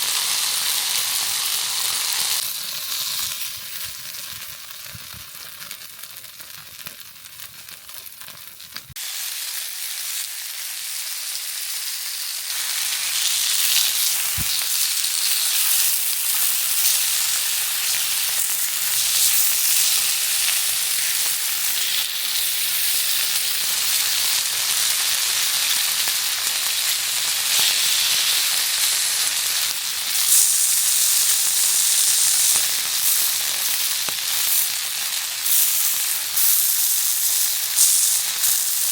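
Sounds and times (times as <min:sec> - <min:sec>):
pork sizzling in a pan: 0:00.0 - 0:38.9.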